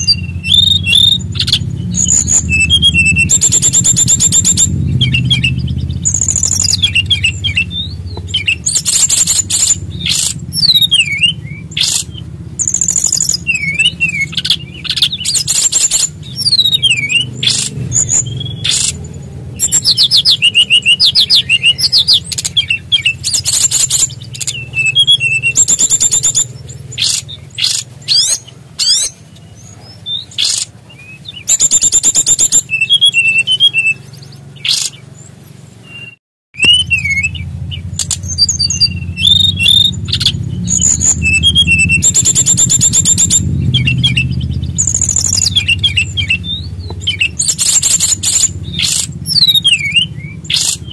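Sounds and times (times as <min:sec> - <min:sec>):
steady low hum: 0:00.0 - 0:36.0, 0:36.6 - 0:50.9
bird singing trills and whistles: 0:00.0 - 0:50.9.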